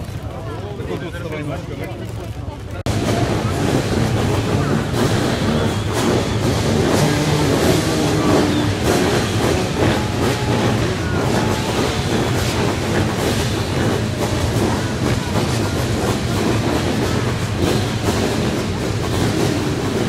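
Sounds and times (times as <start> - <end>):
many engines revving: 0.0 - 20.0.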